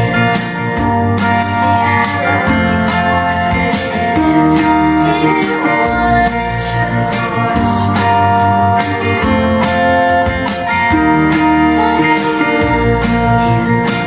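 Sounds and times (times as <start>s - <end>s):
guitar: 0.0s - 14.0s
pop song through speakers: 0.0s - 14.0s
steady drum beat: 0.0s - 14.0s.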